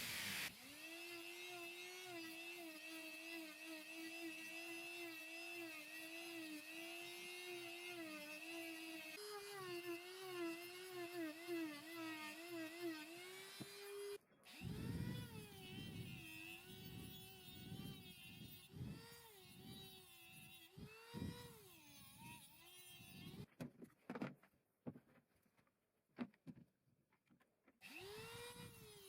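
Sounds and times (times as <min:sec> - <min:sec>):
power tool motor whining: 0:00.0 - 0:23.5, 0:27.8 - 0:29.0.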